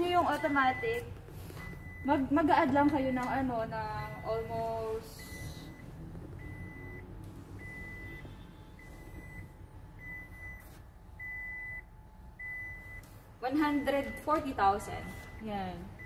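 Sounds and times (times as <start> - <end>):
electronic warning beeper: 0.0 - 16.0.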